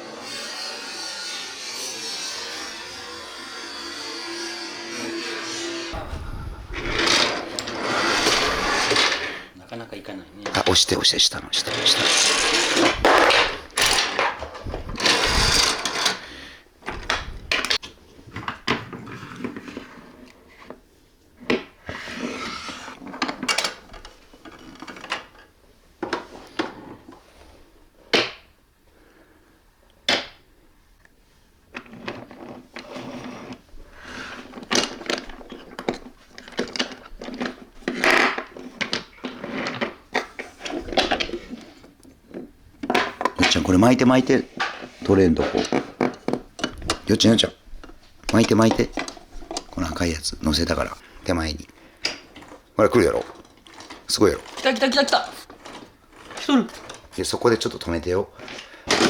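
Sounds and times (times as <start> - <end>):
wooden toy trains clattering: 4.9 - 27.3, 31.7 - 59.0.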